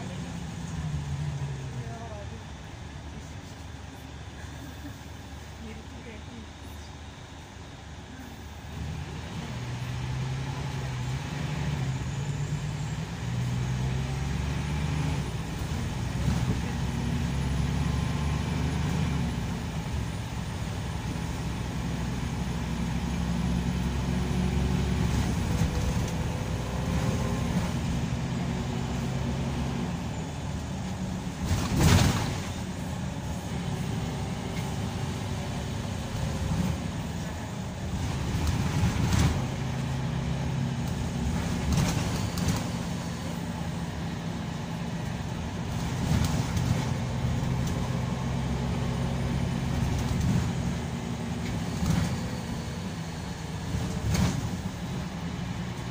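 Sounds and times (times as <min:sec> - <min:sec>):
bus engine through the gears: 0:00.0 - 0:55.9.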